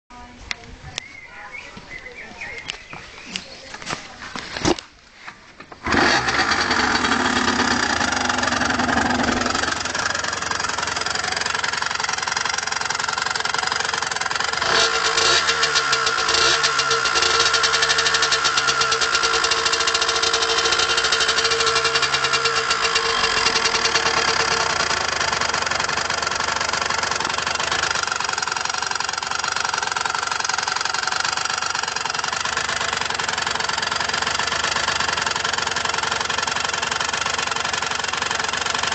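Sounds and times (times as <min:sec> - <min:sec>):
motorcycle engine revving: 0:05.8 - 0:38.9.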